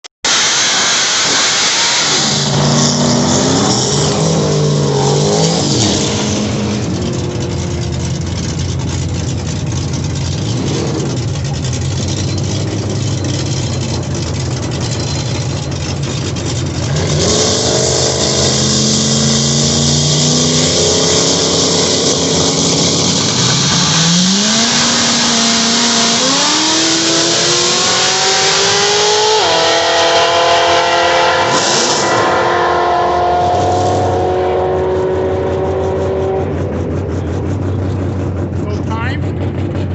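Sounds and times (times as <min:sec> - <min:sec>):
drag car engine revving: 0:00.3 - 0:39.9.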